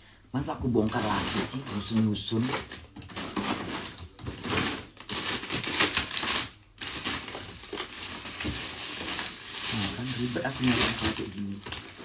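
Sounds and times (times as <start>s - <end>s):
packages rustling and crinkling: 0.4s - 12.0s.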